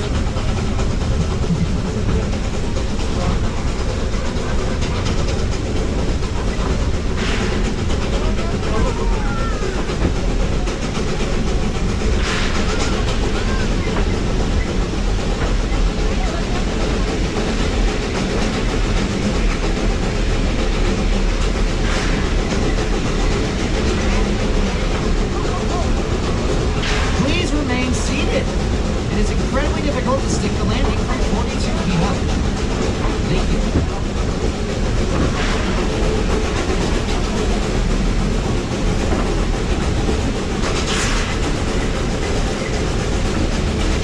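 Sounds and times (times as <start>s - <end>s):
steam train rumbling: 0.0s - 44.0s
wheels clicking over rails: 0.0s - 44.0s.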